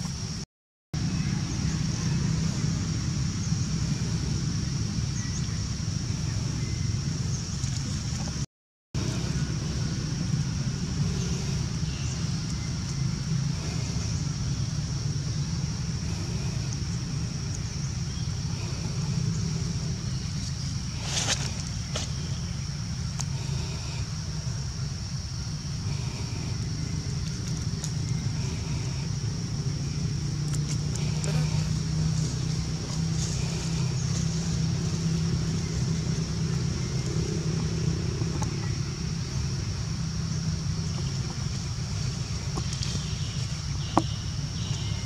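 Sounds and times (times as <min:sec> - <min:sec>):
low outdoor rumble: 0:01.0 - 0:45.0.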